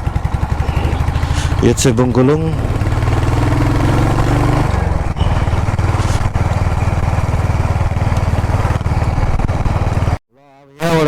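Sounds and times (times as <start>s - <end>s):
motorcycle engine running: 0.0s - 10.2s
wind noise: 0.0s - 10.2s.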